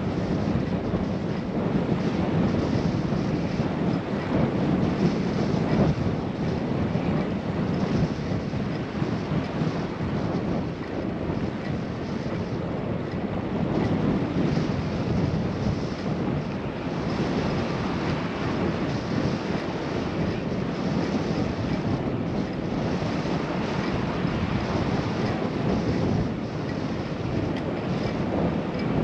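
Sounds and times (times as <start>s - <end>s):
wind rushing over microphone: 0.0s - 29.0s.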